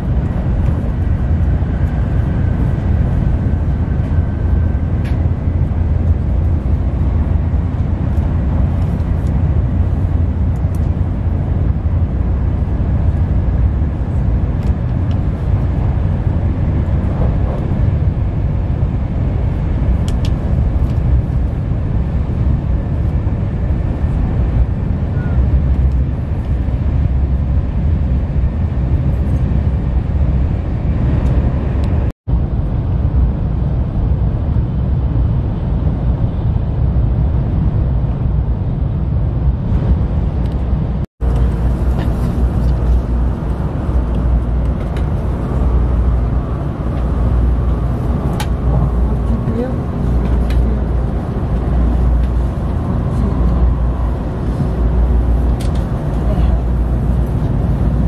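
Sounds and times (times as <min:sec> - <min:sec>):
train rumble inside cabin: 0:00.0 - 0:58.0.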